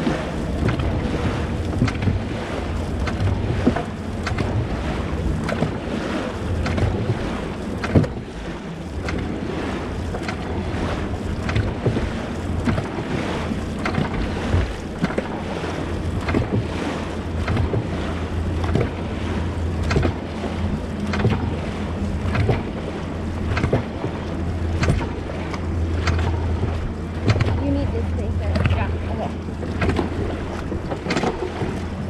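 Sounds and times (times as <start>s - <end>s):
paddle strokes in water: 0.0s - 32.0s
rushing water: 0.0s - 32.0s.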